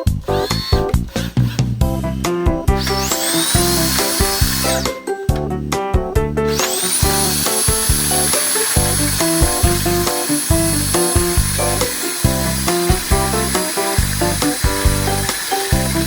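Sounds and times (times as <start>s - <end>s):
power drill motor whining: 0.0s - 2.0s, 2.7s - 5.0s, 6.5s - 16.0s
background music: 0.0s - 16.0s.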